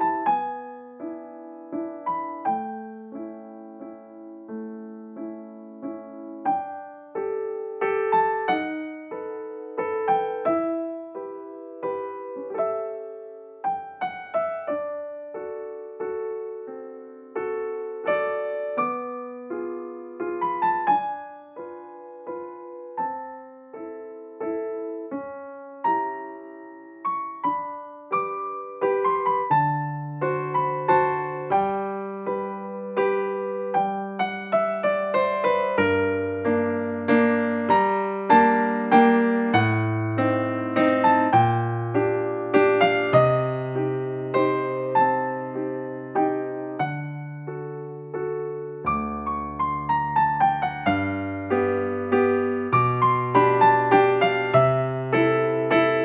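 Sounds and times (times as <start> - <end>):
gentle piano music: 0.0 - 56.0.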